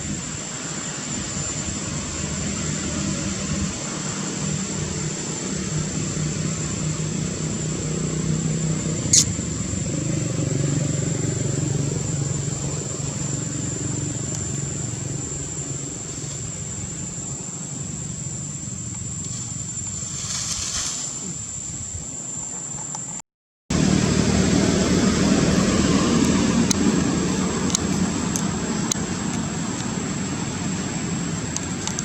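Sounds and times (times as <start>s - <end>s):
motor engine running: 0.0s - 20.0s, 23.7s - 32.0s
high-pitched whine: 0.0s - 22.2s, 23.7s - 32.0s.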